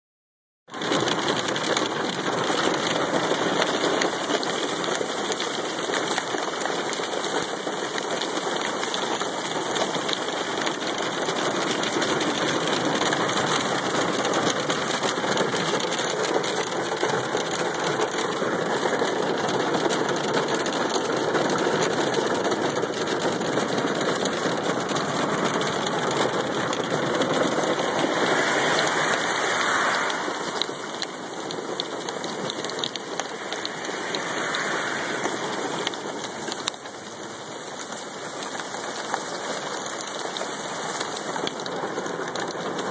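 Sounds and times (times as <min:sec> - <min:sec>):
hail drumming on vehicle roof: 0:00.7 - 0:42.9.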